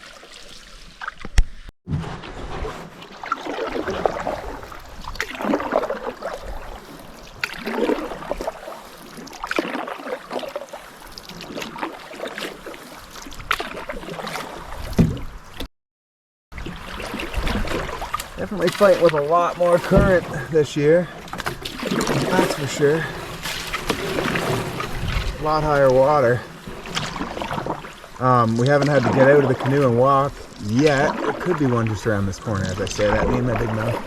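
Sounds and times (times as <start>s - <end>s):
paddle strokes through water: 0.0s - 15.7s, 16.5s - 34.0s.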